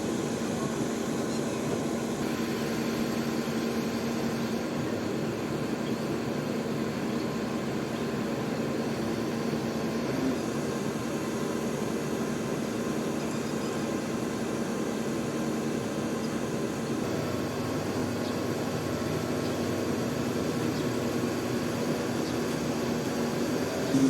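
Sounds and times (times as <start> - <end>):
heavy machinery engine drone: 0.0 - 24.0.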